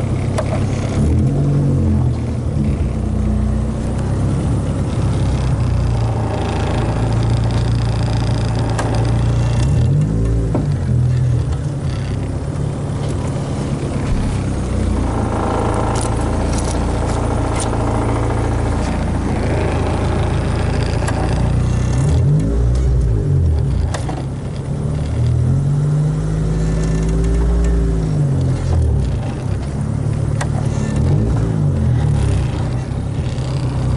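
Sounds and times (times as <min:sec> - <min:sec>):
car engine revving while driving: 0:00.0 - 0:33.9
road noise: 0:00.0 - 0:33.9.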